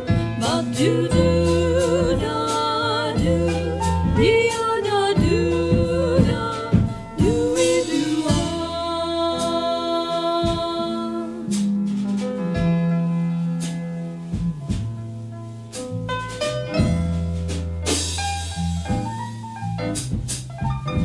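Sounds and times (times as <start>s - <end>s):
wavering melody over drum beat: 0.0s - 21.0s.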